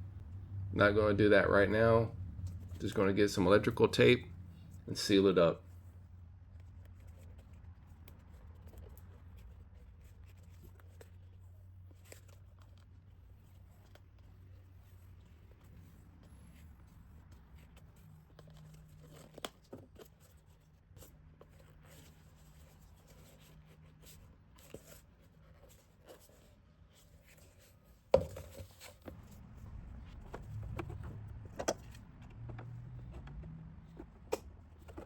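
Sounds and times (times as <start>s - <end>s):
small clicks and rustles: 6.5s - 35.0s.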